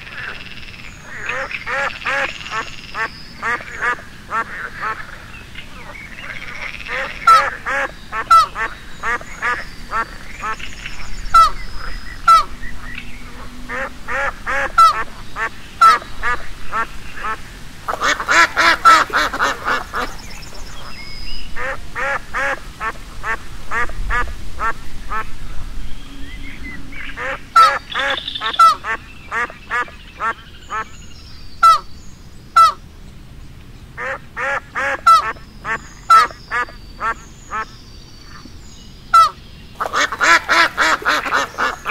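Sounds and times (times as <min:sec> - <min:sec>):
ducks quacking: 0:00.0 - 0:31.0, 0:31.6 - 0:31.9, 0:34.0 - 0:38.5, 0:39.1 - 0:41.9.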